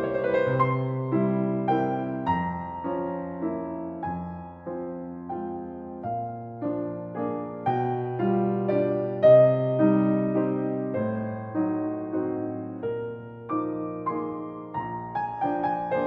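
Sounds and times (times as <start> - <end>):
slow gentle solo piano piece: 0.0 - 16.0.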